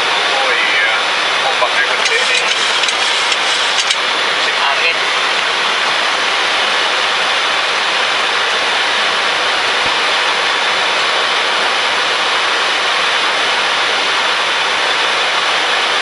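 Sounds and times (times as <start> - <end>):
aircraft cockpit air and engine hiss: 0.0 - 16.0.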